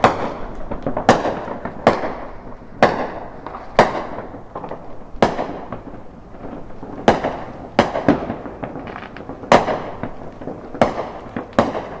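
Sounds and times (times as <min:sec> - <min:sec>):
fireworks bangs: 0:00.0 - 0:12.0
fireworks pops and crackles: 0:00.0 - 0:12.0.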